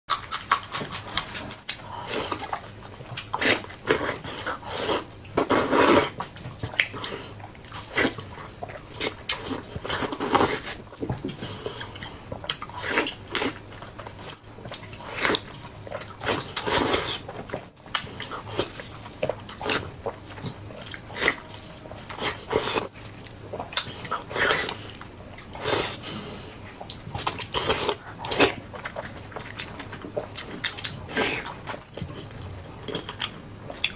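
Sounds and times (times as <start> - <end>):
person chewing and biting: 0.1 - 33.9.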